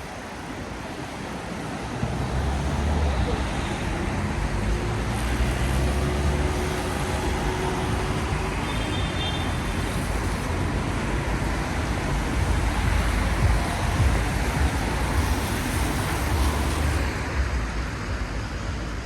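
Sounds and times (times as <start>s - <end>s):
rain: 0.0s - 19.0s
tyres hissing on wet road: 0.0s - 19.0s
low engine rumble: 1.9s - 18.8s.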